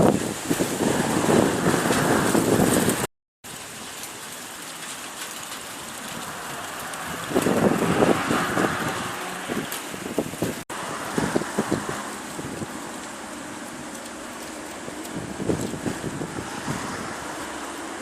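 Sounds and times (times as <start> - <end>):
wind buffeting microphone: 0.0 - 3.1, 5.6 - 18.0
wind thrashing tree leaves: 0.0 - 18.0.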